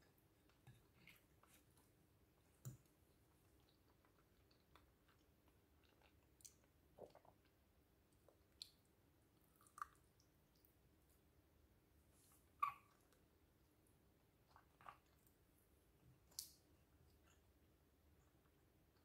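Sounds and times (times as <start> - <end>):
faint chewing: 0.0 - 11.2, 14.2 - 19.0.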